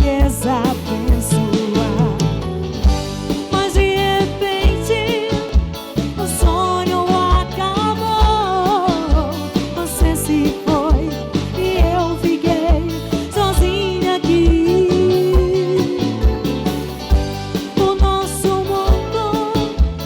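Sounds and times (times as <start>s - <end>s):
bass: 0.0s - 20.0s
drums with steady beat: 0.0s - 20.0s.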